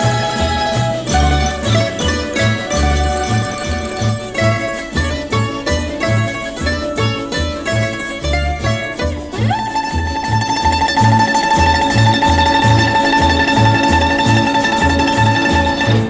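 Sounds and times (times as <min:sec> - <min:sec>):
alternating bass accompaniment: 0:00.0 - 0:16.0
bouzouki melody: 0:00.0 - 0:16.0.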